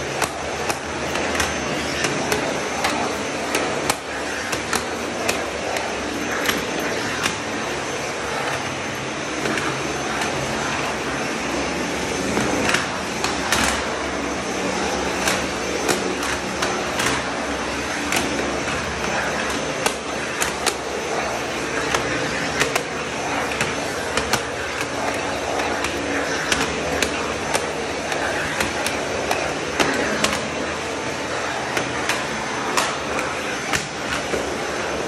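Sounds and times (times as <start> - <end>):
vacuum cleaner whining: 0.0 - 35.0.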